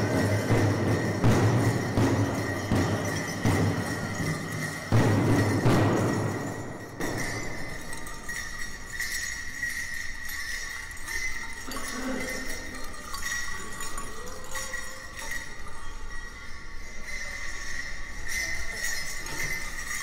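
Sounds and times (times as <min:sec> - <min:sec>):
dance bells jingling: 0:00.0 - 0:20.0.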